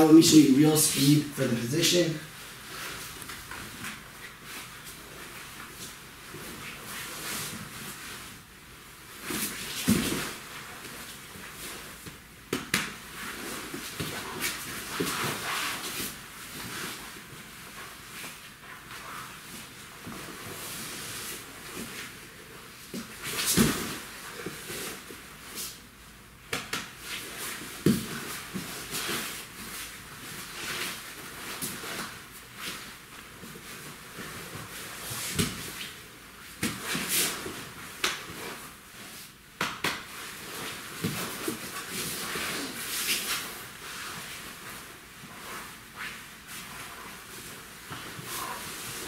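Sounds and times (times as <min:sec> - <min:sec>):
fabric rustling and sliding: 0:02.3 - 0:12.3, 0:12.9 - 0:25.9, 0:26.9 - 0:49.0.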